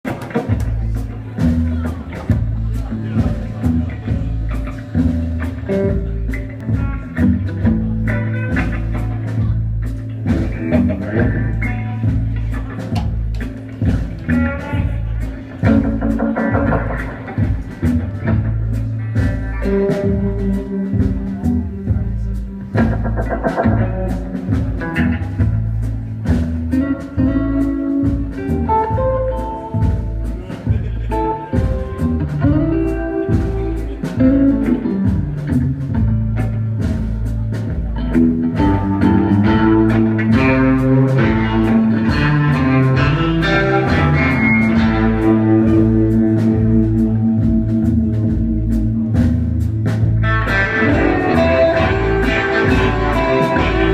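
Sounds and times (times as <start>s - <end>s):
bass line: 0.0s - 53.9s
guitar: 0.0s - 53.9s.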